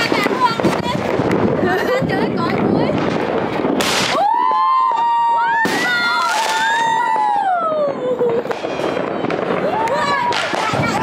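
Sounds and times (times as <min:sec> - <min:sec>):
fireworks crackle: 0:00.0 - 0:11.0
whistling fireworks: 0:00.0 - 0:11.0.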